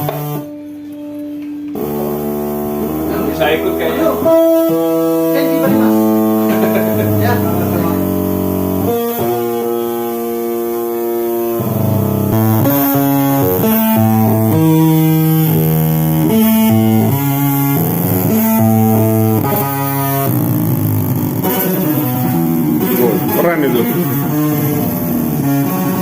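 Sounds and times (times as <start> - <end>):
instrument playing held notes: 0.0 - 26.0.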